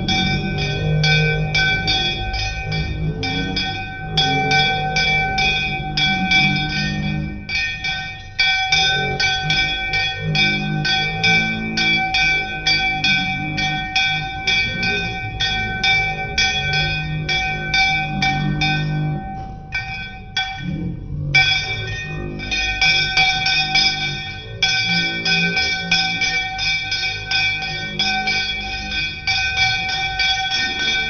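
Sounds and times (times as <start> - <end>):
hand bell ringing rapidly: 0.0 - 31.0.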